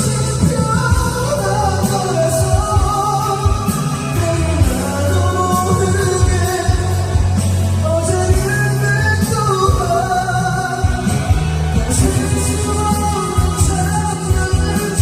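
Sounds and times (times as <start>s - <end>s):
karaoke backing track: 0.0s - 15.0s
man singing pop-rock ballad: 0.0s - 15.0s.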